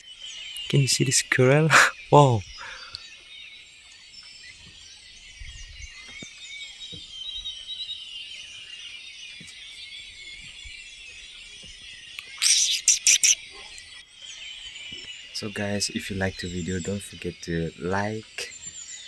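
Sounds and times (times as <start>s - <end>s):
many small birds chirping: 0.0s - 19.0s.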